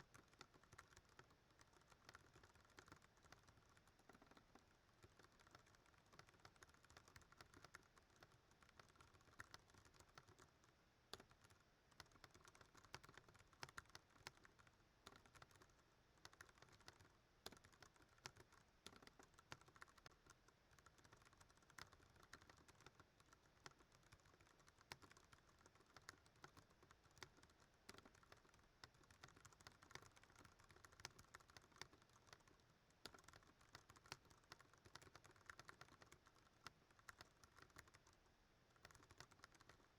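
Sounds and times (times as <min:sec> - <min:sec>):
mechanical keyboard typing: 0:00.0 - 0:38.2, 0:38.8 - 0:39.9.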